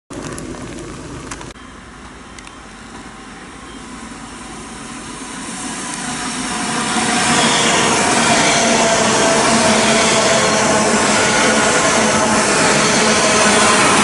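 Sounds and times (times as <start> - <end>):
train wheels rumbling on rails: 0.1 - 14.0.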